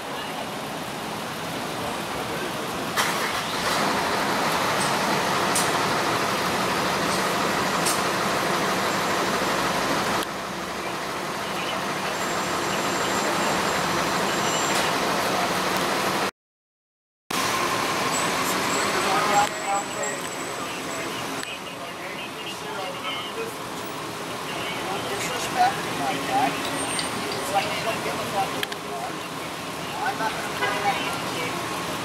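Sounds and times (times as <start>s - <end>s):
street traffic noise: 0.0s - 16.3s, 17.3s - 32.0s
vehicle engine running close: 1.6s - 16.3s, 17.4s - 32.0s.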